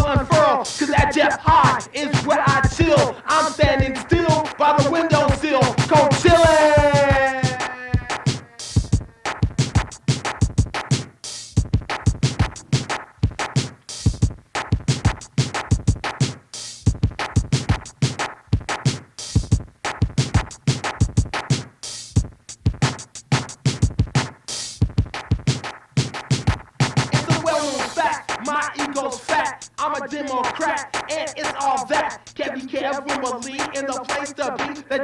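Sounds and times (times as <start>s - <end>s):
drum machine beat: 0.0s - 35.0s
turntable record scratching: 0.0s - 35.0s.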